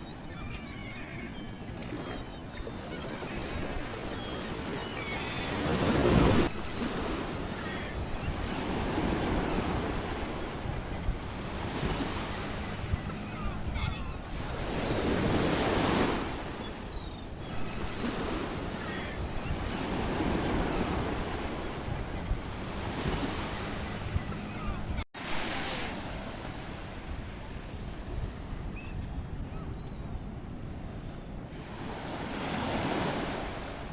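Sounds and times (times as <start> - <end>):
sea waves breaking: 0.0 - 33.9.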